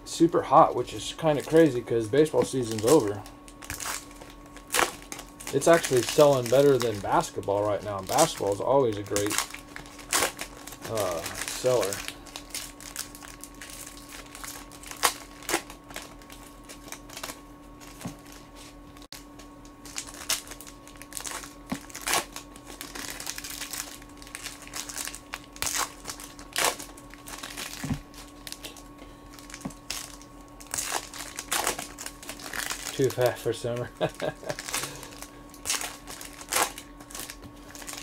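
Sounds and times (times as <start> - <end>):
faint steady hum: 0.0 - 38.0
foil packs crinkling and snapping: 0.5 - 38.0.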